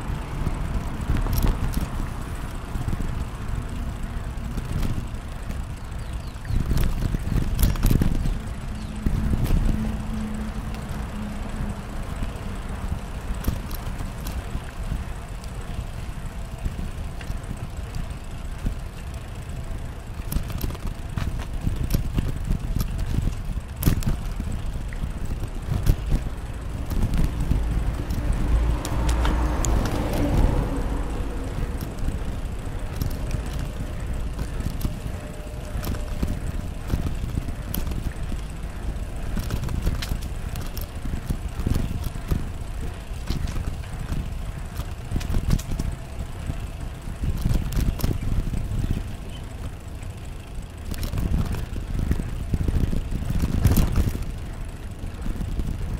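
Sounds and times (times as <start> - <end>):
bicycle clicks and rattles: 0.0 - 55.9
humming sound: 0.0 - 55.9
wind rushing over microphone: 4.4 - 15.2, 20.3 - 49.8, 50.7 - 55.9.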